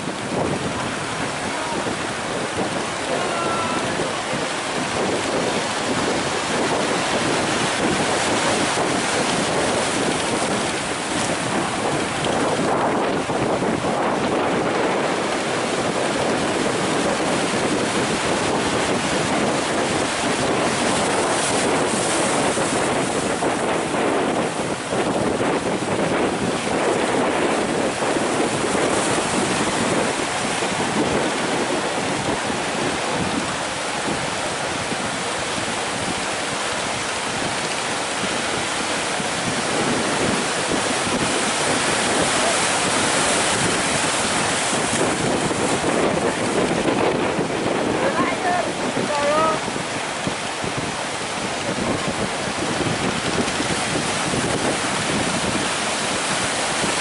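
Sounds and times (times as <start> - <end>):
ocean waves breaking: 0.0 - 57.0
wind buffeting microphone: 0.0 - 57.0.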